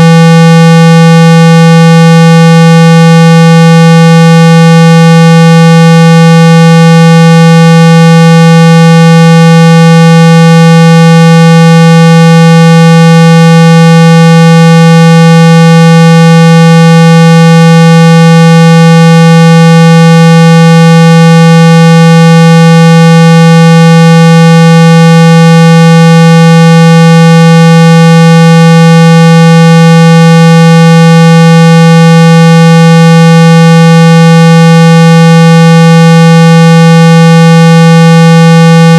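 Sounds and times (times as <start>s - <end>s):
low buzzing test tone: 0.0s - 38.9s.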